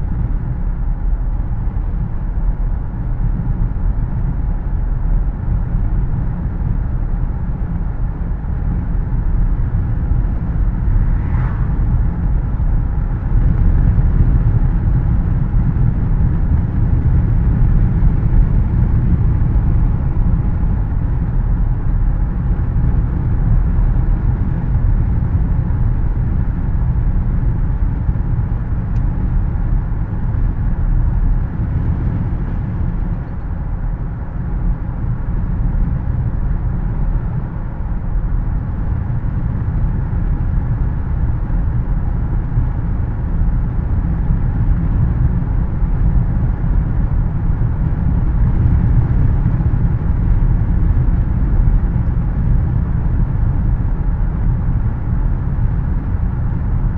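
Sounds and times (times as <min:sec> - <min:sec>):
car tyre and engine rumble: 0:00.0 - 0:56.9.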